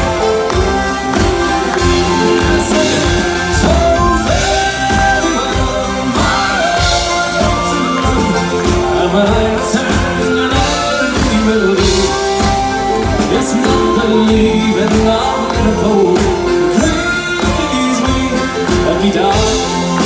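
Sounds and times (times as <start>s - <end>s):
audience clapping along: 0.0s - 9.9s, 11.7s - 20.0s
accordion: 0.0s - 20.0s
drum kit beat: 0.0s - 20.0s
electric guitar: 0.0s - 20.0s.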